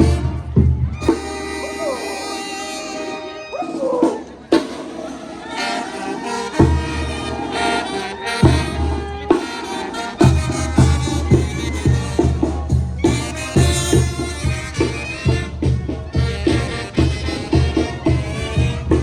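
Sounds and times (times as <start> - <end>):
reedy wind instruments playing: 0.0 - 19.0.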